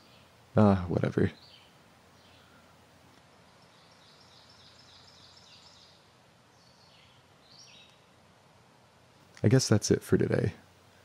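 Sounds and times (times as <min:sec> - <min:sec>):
faint songbird chirping: 0:00.0 - 0:11.0
woodland background hiss: 0:00.0 - 0:11.0.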